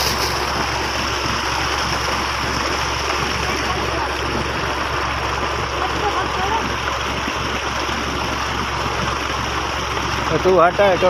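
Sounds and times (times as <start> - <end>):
water gushing into a pond: 0.0 - 11.0.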